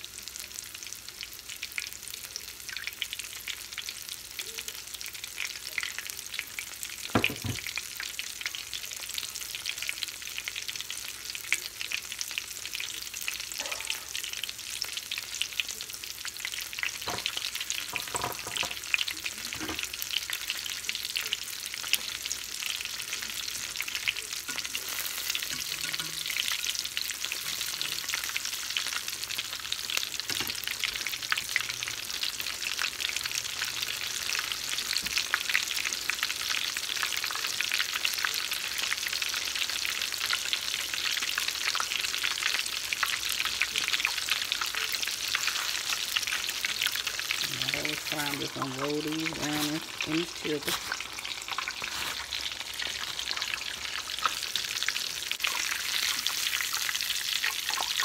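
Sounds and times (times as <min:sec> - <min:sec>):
food deep-frying in hot oil: 0:00.0 - 0:58.0.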